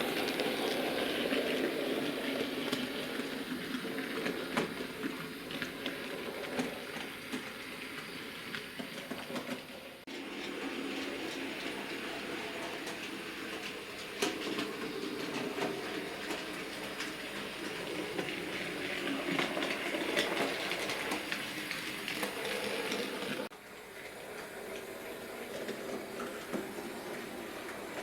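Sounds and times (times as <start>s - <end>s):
wheels clicking on track: 0.0s - 28.0s.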